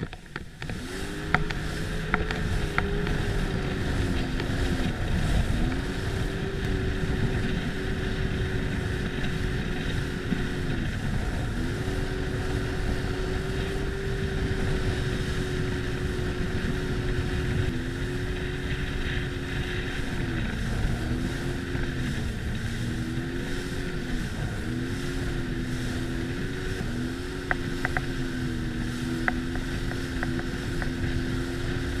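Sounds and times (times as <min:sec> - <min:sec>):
personal watercraft engine running: 0:00.0 - 0:32.0
wind noise on microphone: 0:00.0 - 0:32.0.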